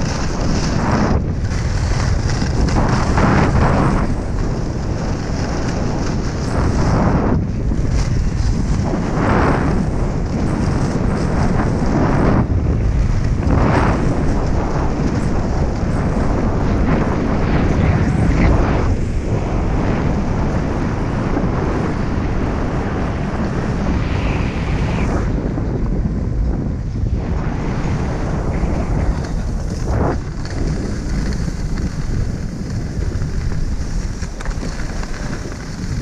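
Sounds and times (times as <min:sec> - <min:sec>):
skis scraping on snow: 0:00.0 - 0:36.0
wind buffeting microphone: 0:00.0 - 0:36.0.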